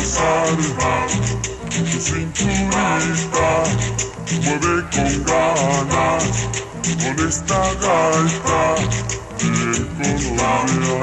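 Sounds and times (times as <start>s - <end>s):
cumbia music: 0.0s - 11.0s.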